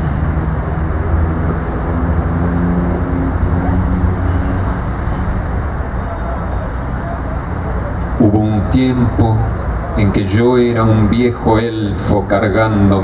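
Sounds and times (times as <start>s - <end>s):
engine drone: 0.0s - 13.0s
road traffic rumble: 0.0s - 13.0s.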